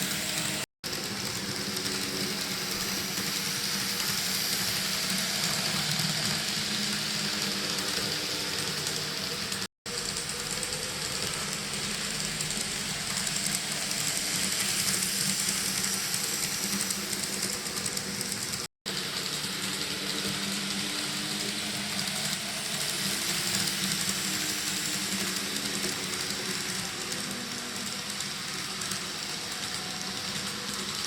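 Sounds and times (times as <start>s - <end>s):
model train motor hum: 0.0s - 31.0s
wheels hissing on rail: 0.0s - 31.0s.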